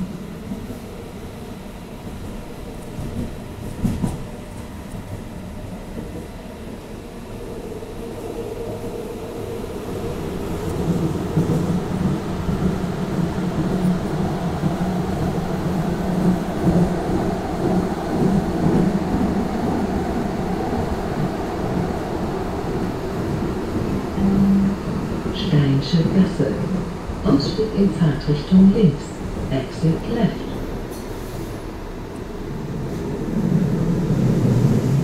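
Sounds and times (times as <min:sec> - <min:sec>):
tram running on rails: 0:00.0 - 0:35.0.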